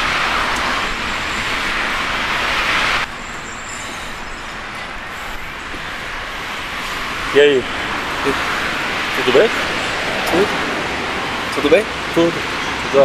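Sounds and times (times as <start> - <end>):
road traffic rushing past: 0.0 - 13.0.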